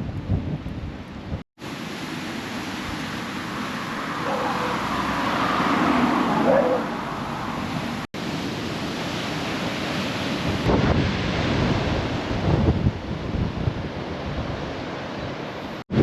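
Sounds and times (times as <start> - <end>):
wind: 0.0 - 16.0
sea surf: 1.6 - 16.0.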